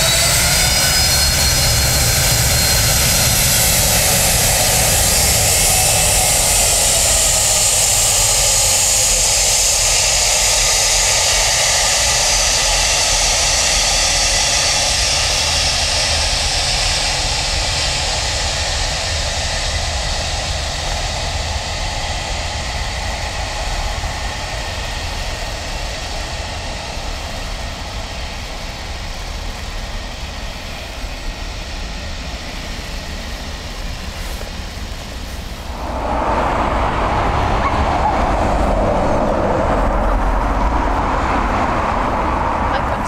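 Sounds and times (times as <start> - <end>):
jet engines hissing and whining: 0.0 - 43.0.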